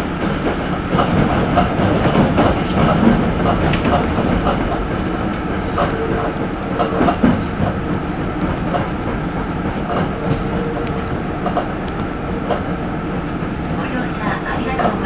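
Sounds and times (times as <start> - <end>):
train rolling noise: 0.0 - 15.0
wheels knocking over rail joints: 0.1 - 15.0.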